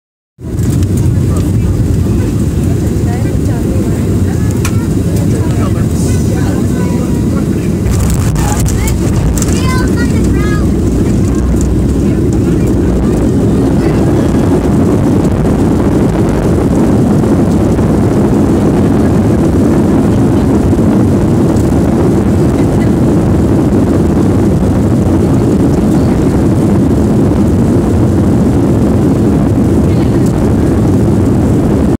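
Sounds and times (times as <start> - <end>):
jet engines roaring: 0.4 - 32.0
wheels rolling on runway: 0.5 - 31.8.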